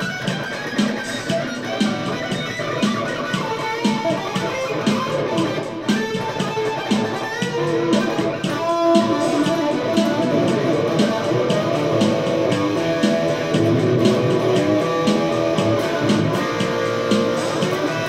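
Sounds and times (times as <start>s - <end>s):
electric guitar through amplifier: 0.0s - 18.0s.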